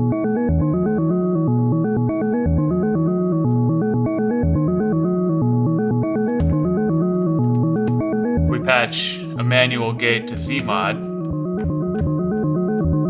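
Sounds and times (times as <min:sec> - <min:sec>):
synthesizer stepped melodic sequence: 0:00.0 - 0:13.0.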